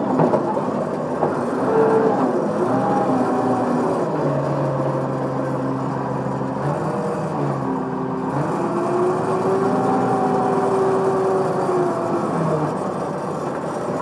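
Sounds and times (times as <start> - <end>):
track loader engine running: 0.0 - 14.0.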